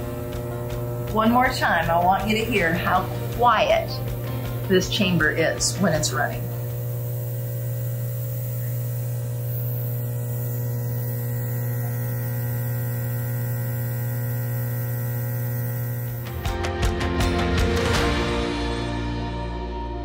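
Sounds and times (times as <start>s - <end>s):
music: 0.0s - 12.2s, 16.1s - 20.0s
air compressors humming: 0.0s - 16.4s.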